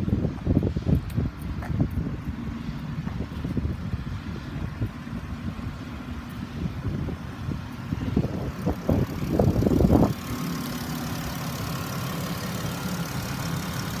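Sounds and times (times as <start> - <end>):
car engine idling: 0.0 - 14.0
irregular engine noise: 0.0 - 14.0.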